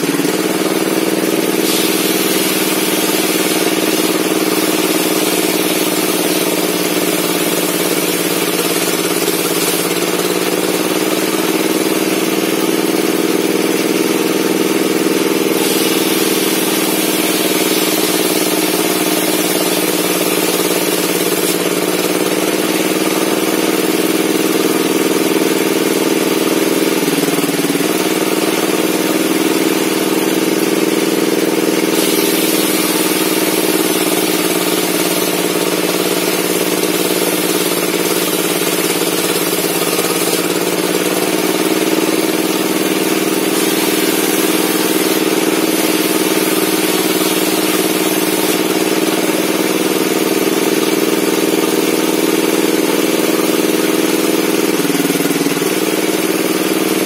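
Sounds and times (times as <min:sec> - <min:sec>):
circular saw cutting wood: 0:00.0 - 0:52.2.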